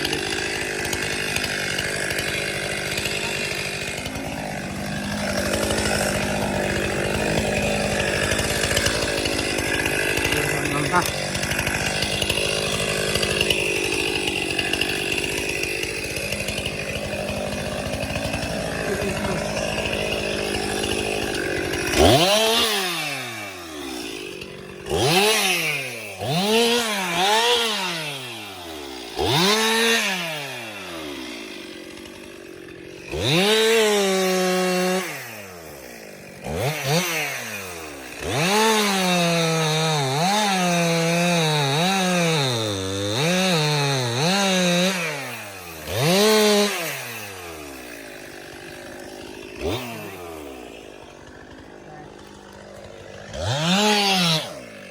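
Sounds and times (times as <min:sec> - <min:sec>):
chainsaw engine revving: 0:00.0 - 0:54.9.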